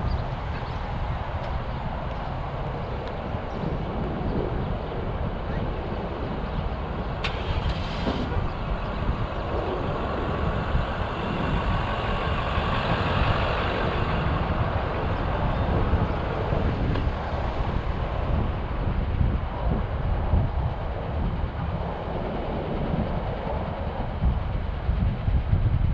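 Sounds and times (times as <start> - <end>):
vehicles running and moving: 0.0 - 25.9
wind rumbling on microphone: 0.0 - 25.9.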